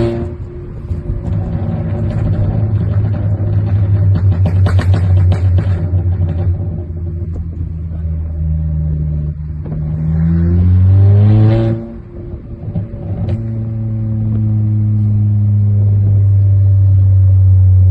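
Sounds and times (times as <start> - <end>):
car engine idling and revving: 0.0 - 17.9
exhaust crack: 0.0 - 17.9.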